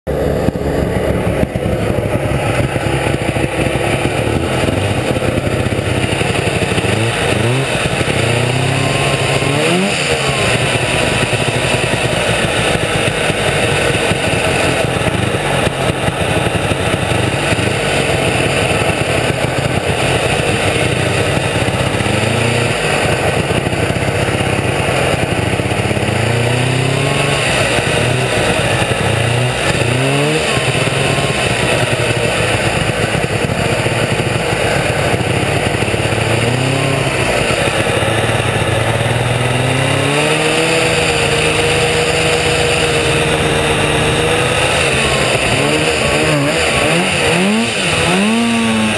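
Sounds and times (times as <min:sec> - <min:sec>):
snowmobile engine revving: 0:00.1 - 0:48.9.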